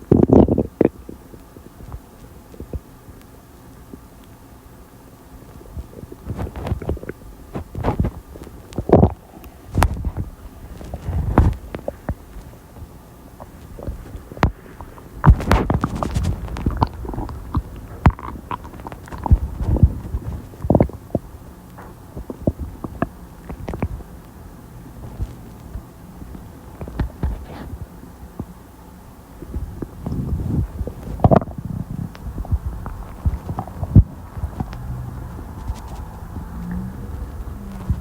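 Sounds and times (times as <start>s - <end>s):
stomach gurgling: 0.0s - 3.2s, 5.3s - 38.0s.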